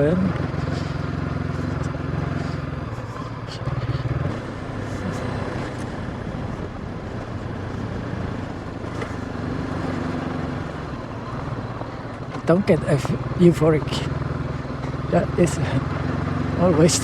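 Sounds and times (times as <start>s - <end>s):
motorcycle engine climbing: 0.0s - 17.0s
microphone rumbling noise: 1.6s - 15.8s.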